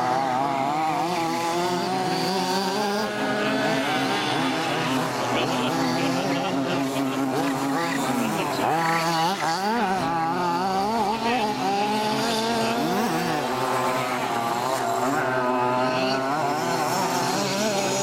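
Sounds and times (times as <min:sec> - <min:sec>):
rc buggy engines buzzing and revving: 0:00.0 - 0:18.0.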